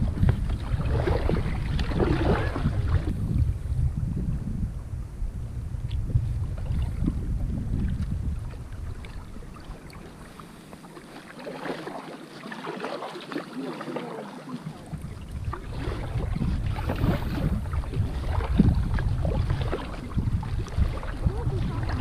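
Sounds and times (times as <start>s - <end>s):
water splashing against kayak: 0.0s - 5.0s, 5.6s - 22.0s
wind rumbling on microphone: 0.0s - 11.1s, 14.5s - 22.0s.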